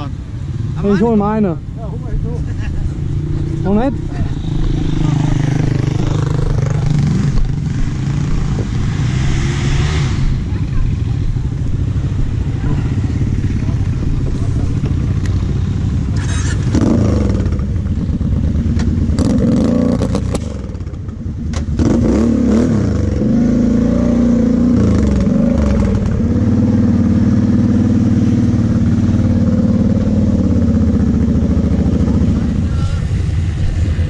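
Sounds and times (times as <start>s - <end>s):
quad bike engine revving: 2.6s - 34.0s.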